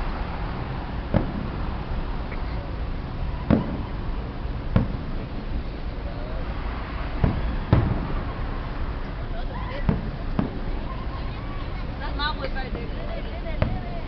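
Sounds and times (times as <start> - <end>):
distant fireworks booming: 0.0 - 5.7, 6.3 - 11.6, 13.6 - 14.0
steady background din: 0.0 - 14.0.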